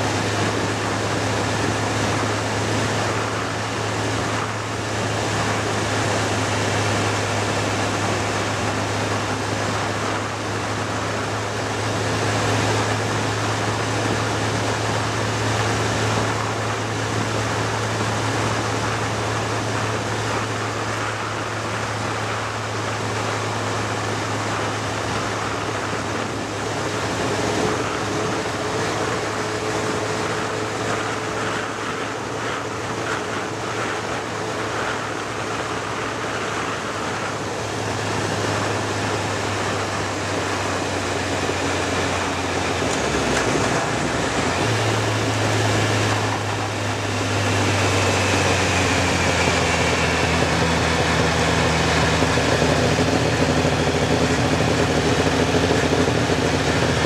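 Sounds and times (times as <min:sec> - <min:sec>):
low engine hum: 0:00.0 - 0:57.0
wind and road noise: 0:00.0 - 0:57.0.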